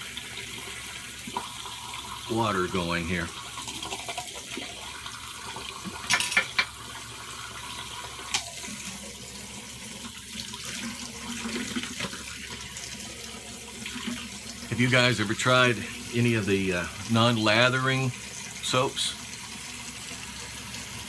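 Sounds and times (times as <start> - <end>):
tap water running: 0.0 - 21.0.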